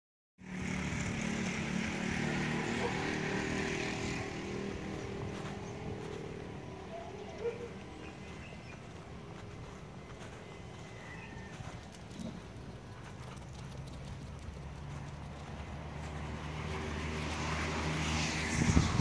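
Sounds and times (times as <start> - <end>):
engine drone: 0.4 - 19.0.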